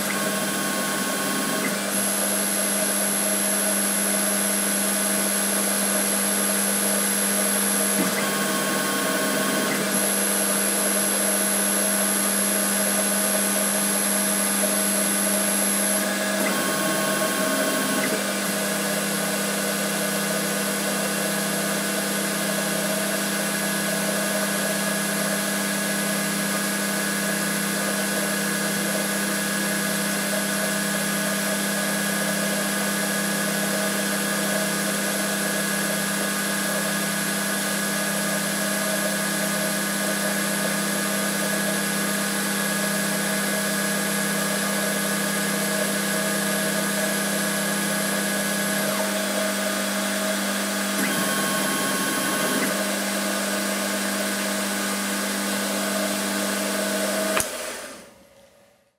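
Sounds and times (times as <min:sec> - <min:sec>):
lathe motor hum: 0:00.0 - 0:58.1.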